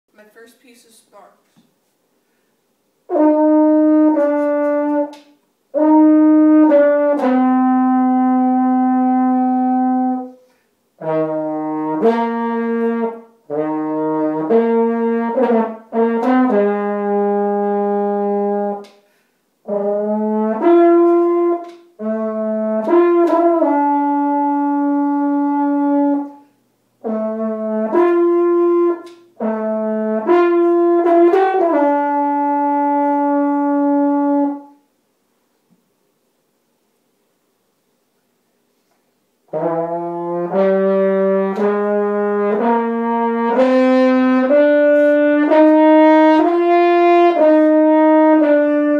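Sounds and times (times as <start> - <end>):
french horn melody: 3.0 - 34.9, 39.4 - 48.9.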